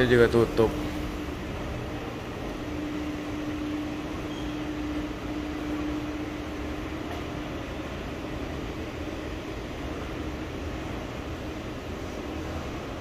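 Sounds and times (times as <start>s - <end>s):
droning tone: 0.0s - 12.7s
mechanical hum with air noise: 0.0s - 13.0s.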